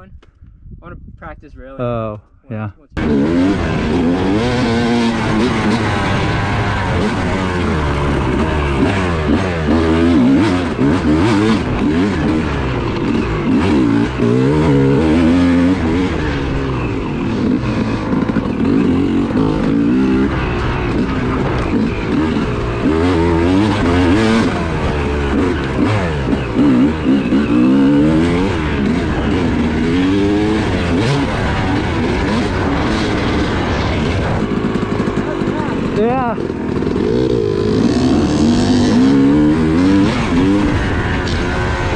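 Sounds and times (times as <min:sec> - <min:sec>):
dirt bike engine revving: 0:03.0 - 0:41.9.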